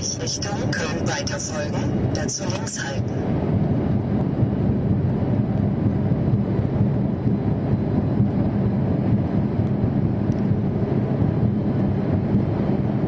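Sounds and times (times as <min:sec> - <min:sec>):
diesel engine drone: 0:00.0 - 0:13.0
road noise: 0:00.0 - 0:13.0.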